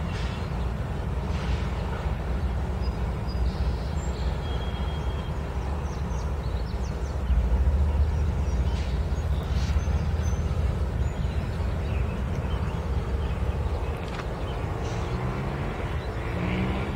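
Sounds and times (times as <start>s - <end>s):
diesel locomotives rumbling: 0.0s - 16.9s.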